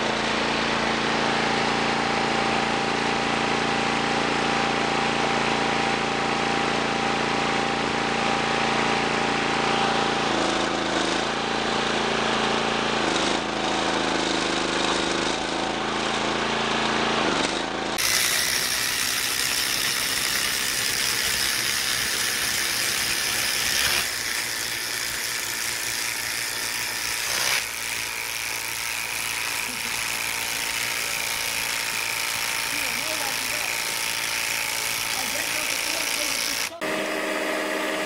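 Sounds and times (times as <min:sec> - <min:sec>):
log splitter engine running: 0:00.0 - 0:38.0.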